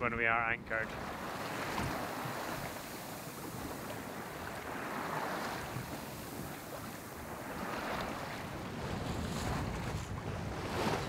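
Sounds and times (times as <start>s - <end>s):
water rushing along boat hull: 0.0s - 11.0s
wind buffeting microphone: 0.6s - 11.0s.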